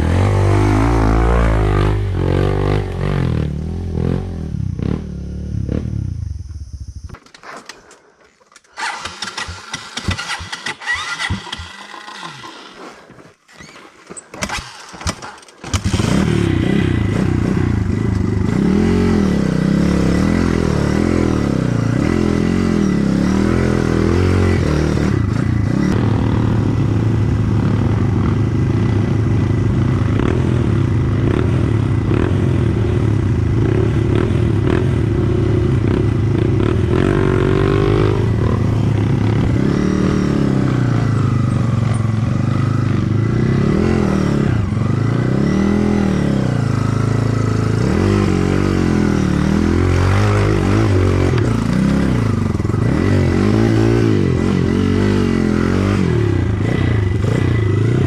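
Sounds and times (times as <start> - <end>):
dirt bike engine revving: 0.0 - 6.3, 8.8 - 13.7, 14.4 - 58.0.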